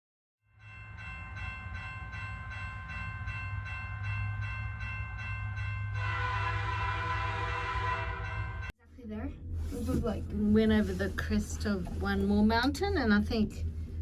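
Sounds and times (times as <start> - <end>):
cable car low rumble: 0.6 - 14.0.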